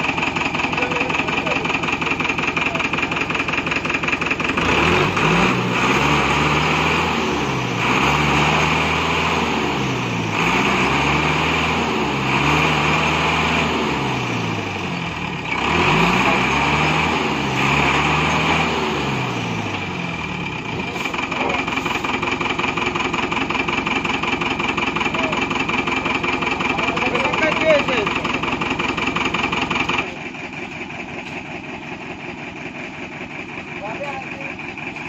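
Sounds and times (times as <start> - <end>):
diesel truck engine revving: 0.0 - 35.0.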